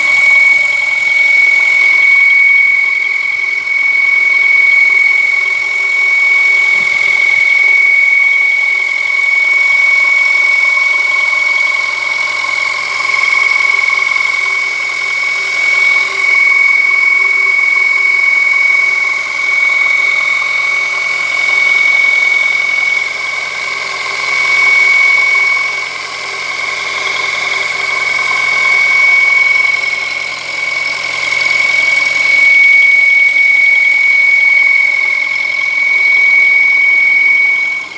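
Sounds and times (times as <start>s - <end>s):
high-pitched whistle under the bonnet: 0.0s - 37.9s.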